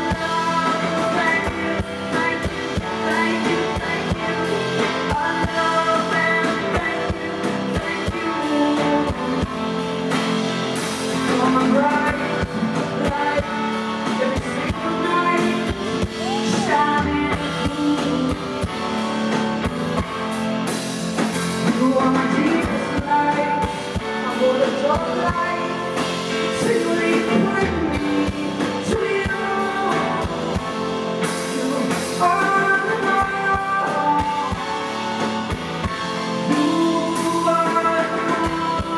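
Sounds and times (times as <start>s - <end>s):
woman singing: 0.0s - 19.4s, 21.6s - 38.9s
drums: 0.0s - 38.9s
live band playing: 0.0s - 38.9s.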